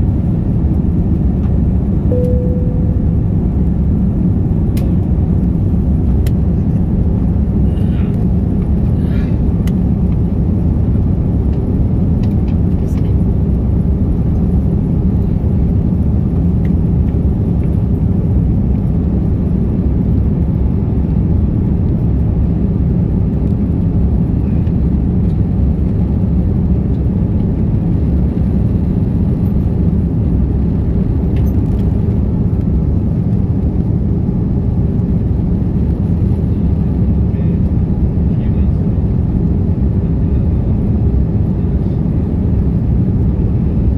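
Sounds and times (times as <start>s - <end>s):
jet engines through cabin: 0.0s - 43.9s.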